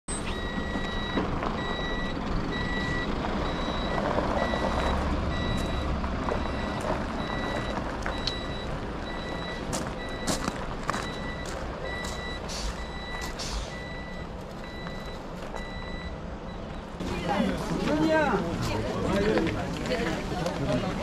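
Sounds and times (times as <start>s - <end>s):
backup alarm beeping: 0.1s - 17.0s
diesel engine idling: 0.1s - 21.0s.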